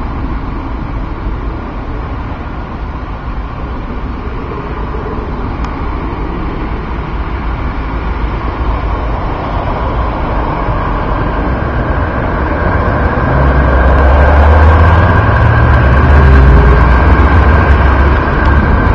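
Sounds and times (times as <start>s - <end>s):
low rumble: 0.0s - 18.9s
tram rolling along track: 0.0s - 18.9s.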